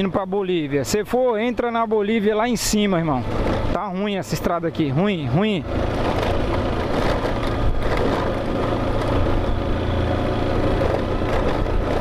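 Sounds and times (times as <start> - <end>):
motorcycle engine running: 1.3 - 12.0.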